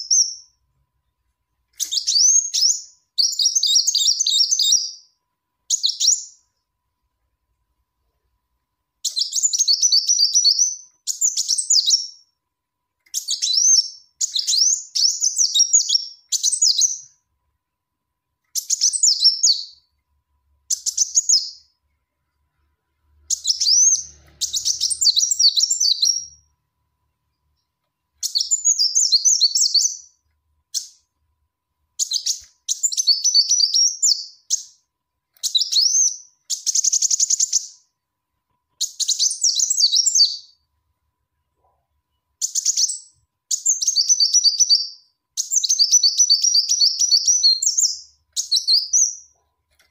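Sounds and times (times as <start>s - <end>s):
bird chirping: 0.0s - 31.3s, 31.9s - 49.9s.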